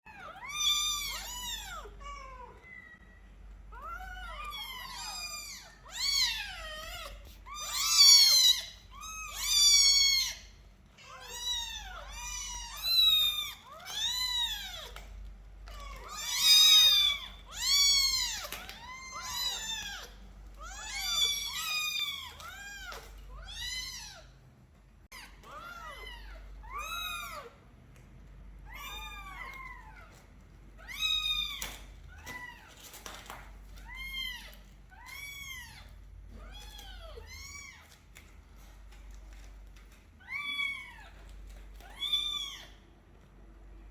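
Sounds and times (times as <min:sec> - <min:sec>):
kittens meowing: 0:00.1 - 0:24.4, 0:25.1 - 0:27.6, 0:28.6 - 0:38.1.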